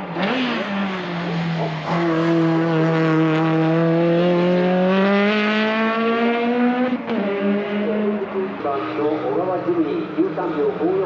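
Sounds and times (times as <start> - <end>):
race car engine: 0.0 - 11.0.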